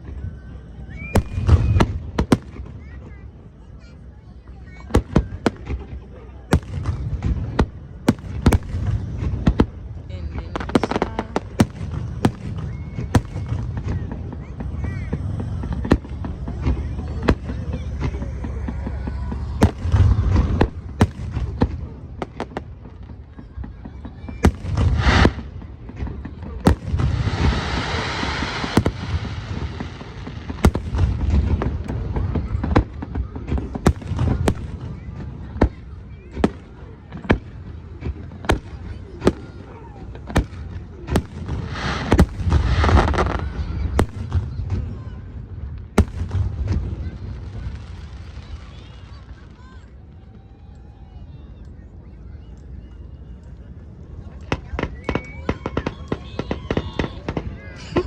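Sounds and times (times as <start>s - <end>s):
low rumble of fireworks: 0.0s - 58.0s.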